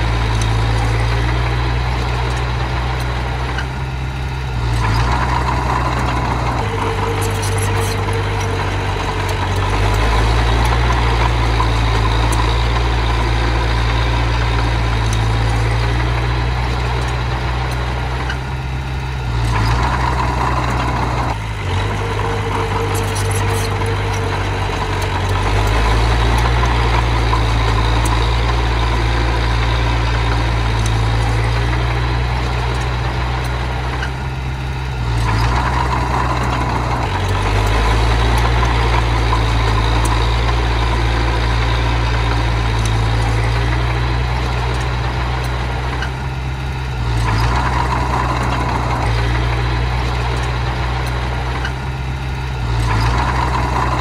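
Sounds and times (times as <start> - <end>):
small bulldozer engine running: 0.0 - 54.0.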